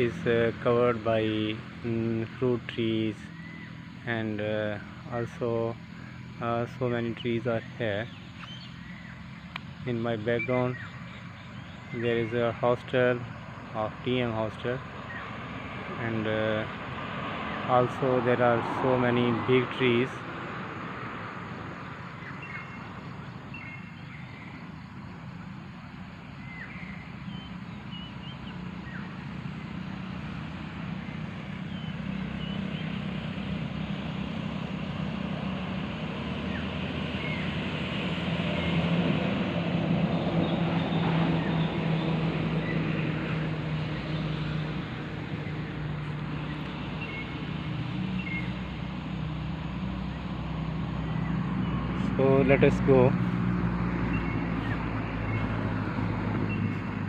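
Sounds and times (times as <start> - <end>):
vehicle engine passing: 0.0 - 24.5, 25.3 - 57.0.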